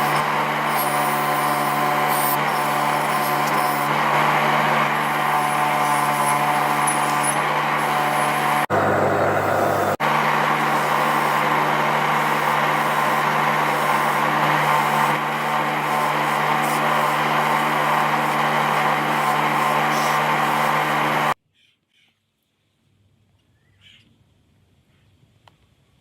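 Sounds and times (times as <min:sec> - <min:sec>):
electric motor humming: 0:00.0 - 0:21.4.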